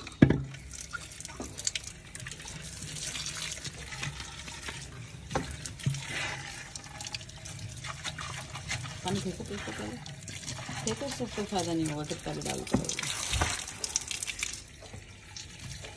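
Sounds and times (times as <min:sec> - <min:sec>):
tap water running into clay pot: 0:00.0 - 0:15.9.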